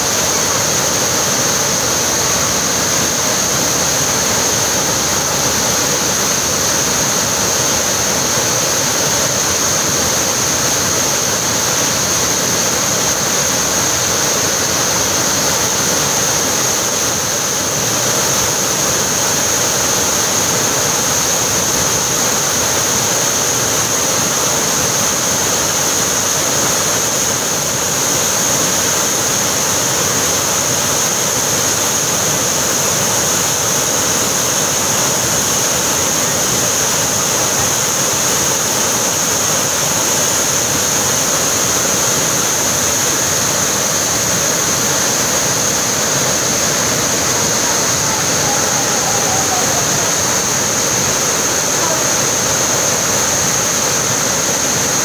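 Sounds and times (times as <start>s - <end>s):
waterfall splashing into pool: 0.0s - 55.0s.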